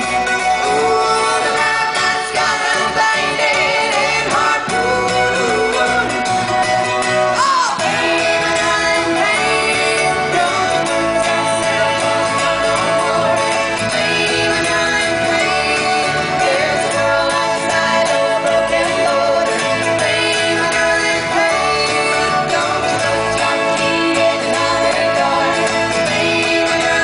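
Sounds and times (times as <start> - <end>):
acoustic guitars and strings playing: 0.0 - 27.0
women singing: 0.0 - 27.0.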